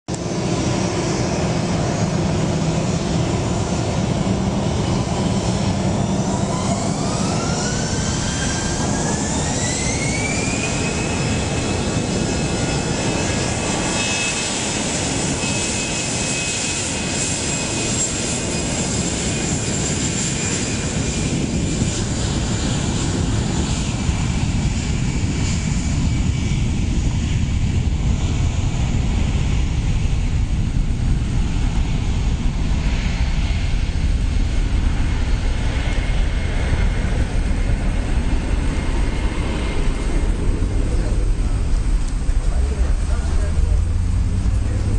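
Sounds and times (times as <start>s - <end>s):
jet engine roar: 0.1s - 44.9s
jet engine whine: 0.1s - 44.9s.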